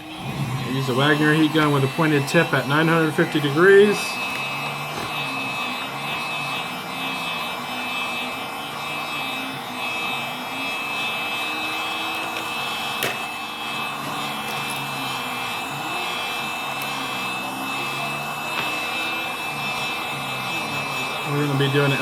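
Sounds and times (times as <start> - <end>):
heat gun fan blowing: 0.0 - 22.0.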